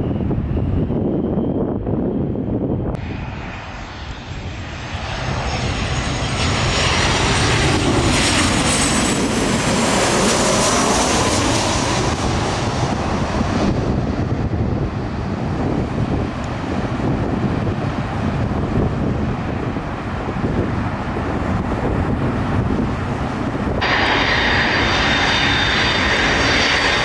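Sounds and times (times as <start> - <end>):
jet airliner passing overhead: 0.0 - 27.0.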